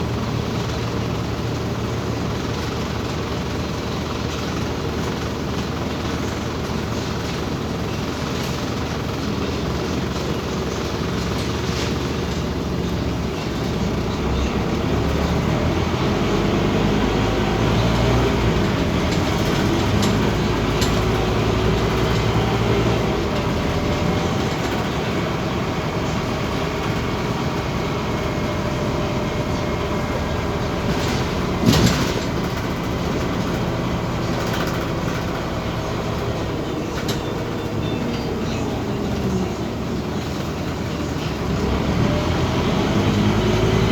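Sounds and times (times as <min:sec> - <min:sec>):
bus engine running: 0:00.0 - 0:43.9
road noise: 0:00.0 - 0:43.9.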